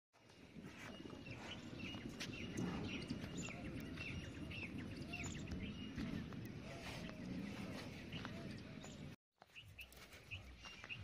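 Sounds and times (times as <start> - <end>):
birds chirping: 0.2 - 11.0
fainter lower bird calls: 0.6 - 11.0.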